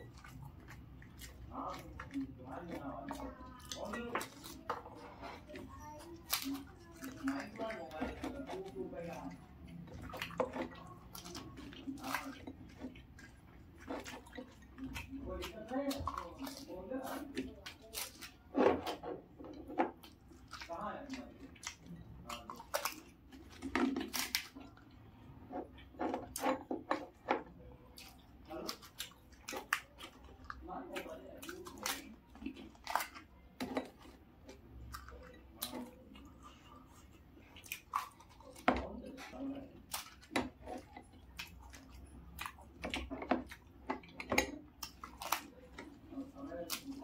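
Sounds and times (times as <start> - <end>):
crisp shells cracking and chewed: 0.0 - 27.3, 27.9 - 47.0.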